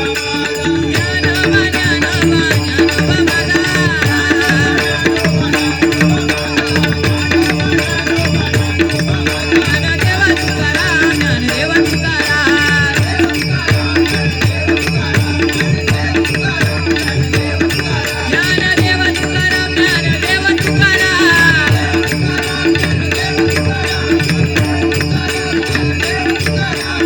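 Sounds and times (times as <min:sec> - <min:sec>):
drum rhythm: 0:00.0 - 0:27.0.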